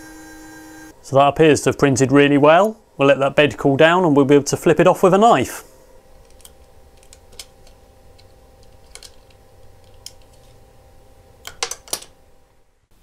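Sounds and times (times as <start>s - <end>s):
quiet steady hum: 0.0s - 13.0s.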